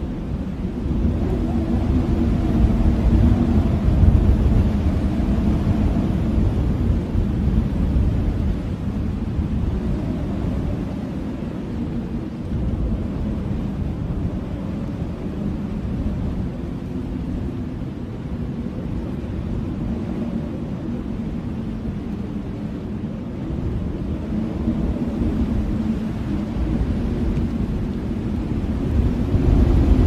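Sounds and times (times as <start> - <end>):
blizzard wind rumbling: 0.0 - 30.0.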